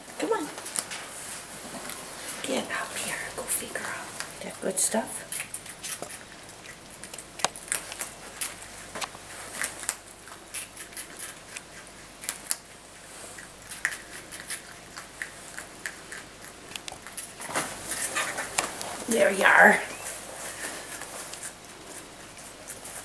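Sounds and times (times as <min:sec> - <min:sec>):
animal crunching a treat: 0:01.7 - 0:19.1, 0:19.8 - 0:23.0.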